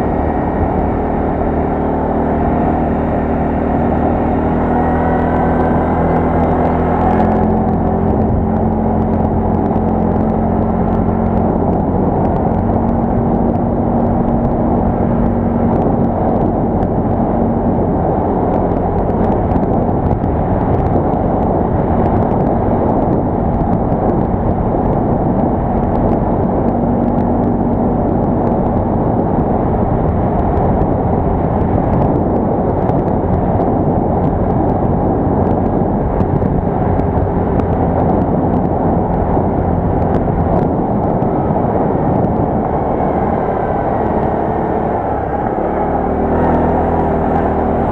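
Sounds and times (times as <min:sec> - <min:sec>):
quad bike engine droning: 0:00.0 - 0:47.9.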